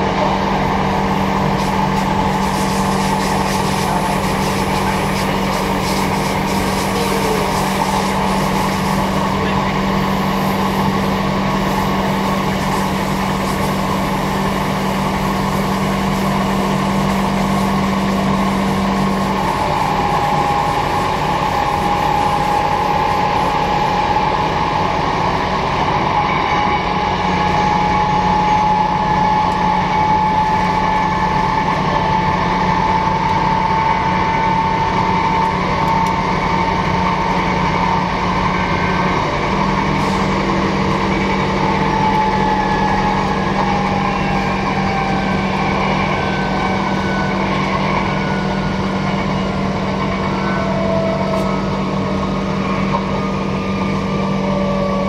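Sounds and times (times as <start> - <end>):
constant hum: 0.0 - 55.0
traction motor whine: 0.0 - 55.0
train wheels rumbling on track: 0.0 - 55.0.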